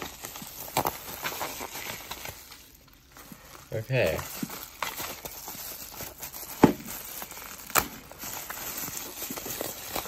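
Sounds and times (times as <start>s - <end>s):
plastic wrap crinkling: 0.0s - 10.0s
sharp plastic crackles: 0.0s - 10.0s.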